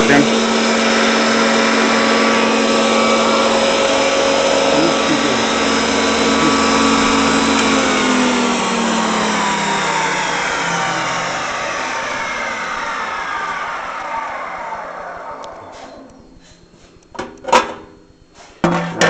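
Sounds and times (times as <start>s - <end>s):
wood planer whirring: 0.0s - 16.9s.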